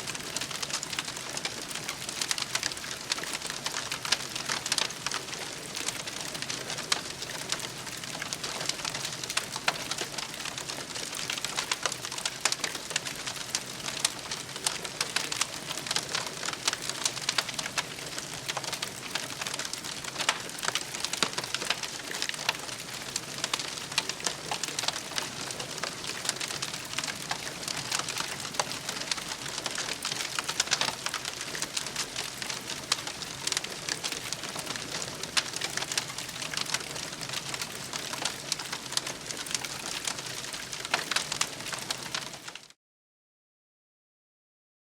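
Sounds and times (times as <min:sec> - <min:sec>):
wood fire crackling: 0:00.0 - 0:42.7.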